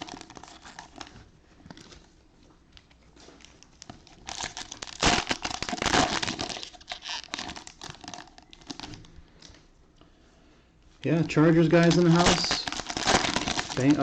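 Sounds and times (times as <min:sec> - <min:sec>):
cellophane wrappers crinkling: 0:00.0 - 0:09.6, 0:11.0 - 0:14.0.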